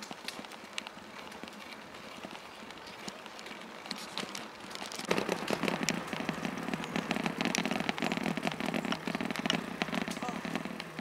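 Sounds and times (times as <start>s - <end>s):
bicycle tyres on gritty path: 0.0s - 11.0s.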